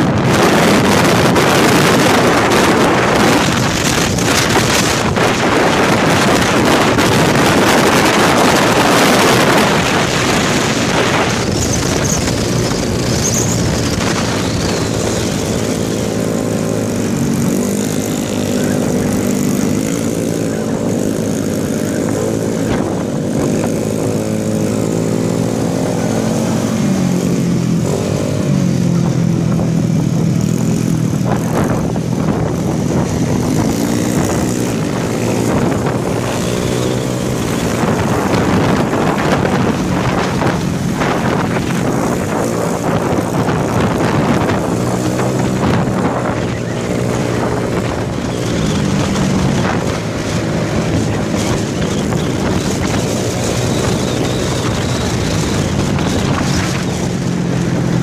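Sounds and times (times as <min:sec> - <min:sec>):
motor scooter engine revving: 0:00.0 - 0:58.0
wind buffeting microphone: 0:00.0 - 0:58.0.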